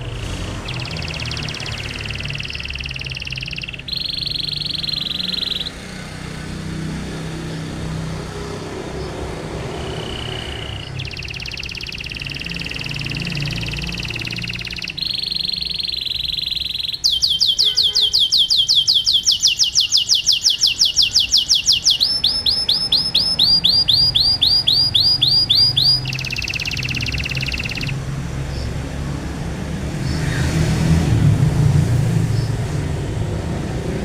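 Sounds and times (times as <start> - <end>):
canary singing trills: 0.0 - 30.6.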